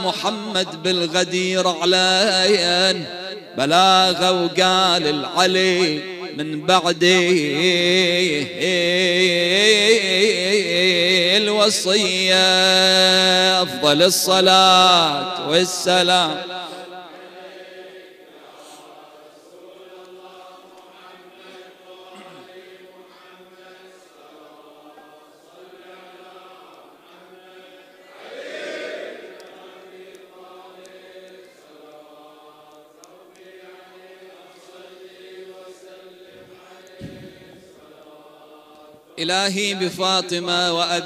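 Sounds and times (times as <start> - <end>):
men chanting in unison: 0.0 - 41.0.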